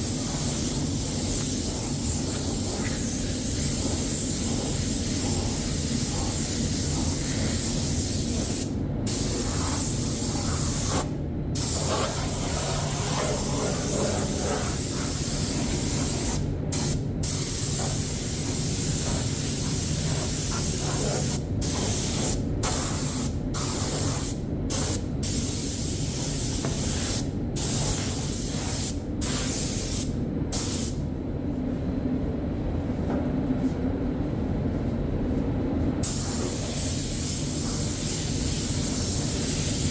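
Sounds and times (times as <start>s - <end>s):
spray gun hissing: 0.0s - 30.9s, 36.0s - 39.9s
steady low hum: 0.0s - 39.9s.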